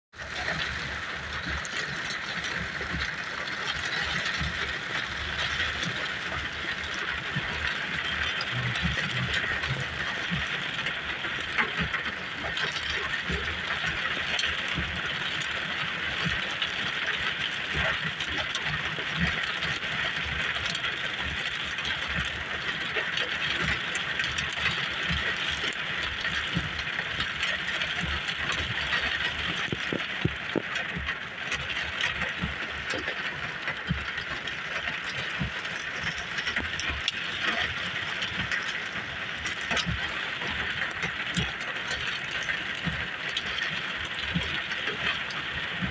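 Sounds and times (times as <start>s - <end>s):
heavy rain falling: 0.2s - 45.9s.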